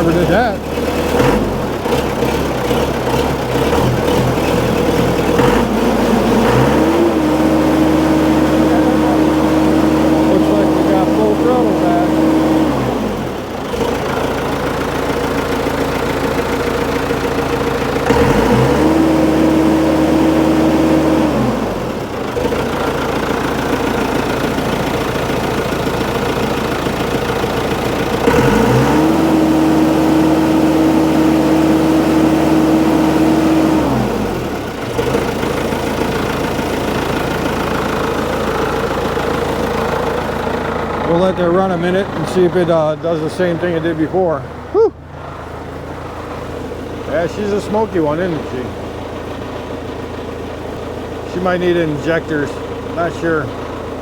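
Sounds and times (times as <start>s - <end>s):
diesel engine idling and revving: 0.0s - 54.0s.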